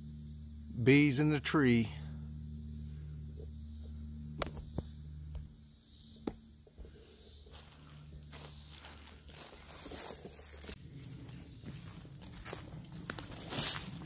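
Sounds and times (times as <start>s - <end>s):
bees humming: 0.0s - 11.8s
high insect trill: 0.0s - 14.0s.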